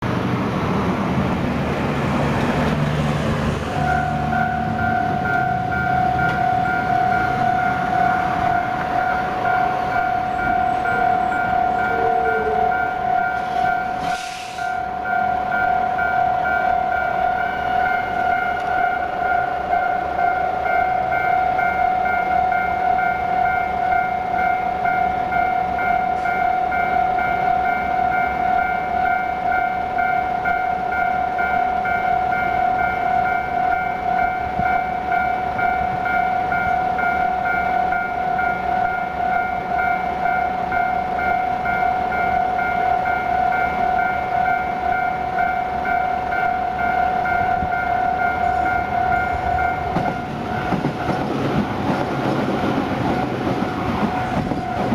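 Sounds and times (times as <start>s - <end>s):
level-crossing electronic bell ringing: 3.7s - 14.0s, 14.6s - 51.2s.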